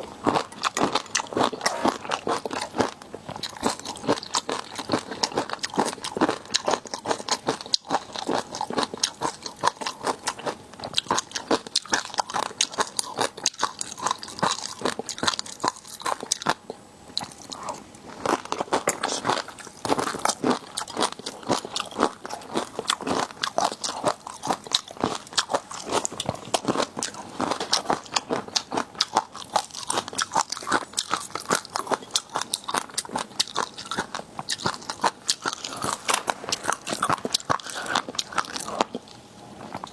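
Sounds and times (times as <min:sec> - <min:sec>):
crunching and chewing seafood: 0:00.0 - 0:39.9.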